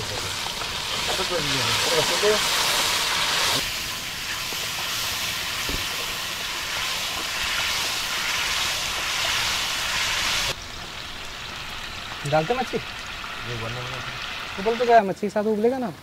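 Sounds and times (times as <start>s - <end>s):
spices sizzling in a pan: 0.0s - 15.8s.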